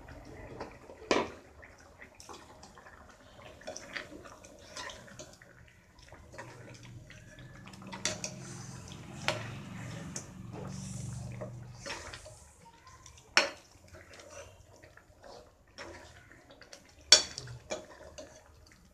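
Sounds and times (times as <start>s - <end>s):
spoon stirring thick gravy: 0.0s - 18.9s.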